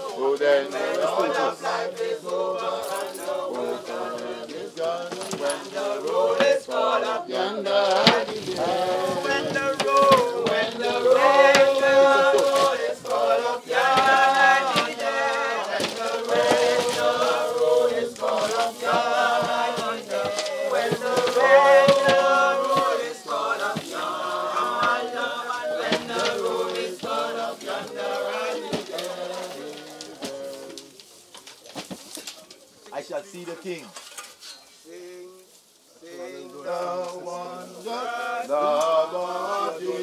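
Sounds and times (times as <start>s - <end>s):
group singing a hymn: 0.0s - 31.1s, 34.8s - 40.0s.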